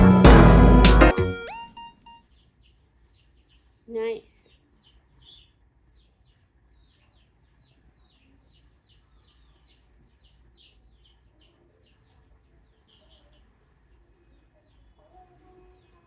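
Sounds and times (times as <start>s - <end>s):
faint bird chirping: 1.4s - 16.0s.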